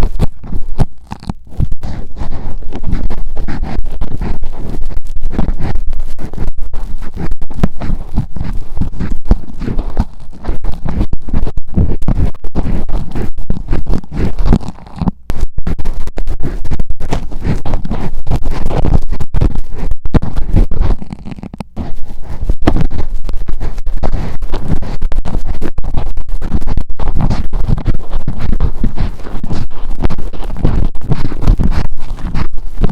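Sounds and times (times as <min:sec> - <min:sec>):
metal ear pick scratching microphone: 0:00.0 - 0:32.9.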